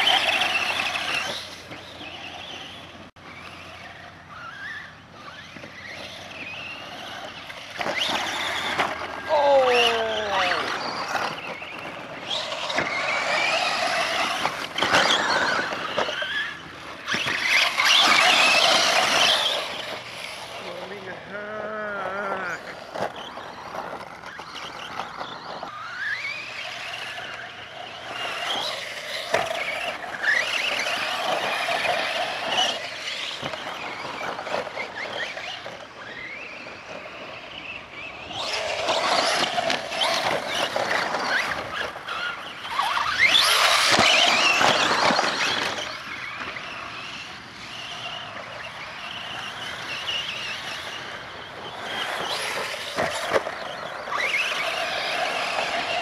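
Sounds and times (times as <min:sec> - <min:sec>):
electric rc truck motors whining: 0:00.0 - 0:56.0
tires scrabbling on dirt: 0:00.0 - 0:56.0.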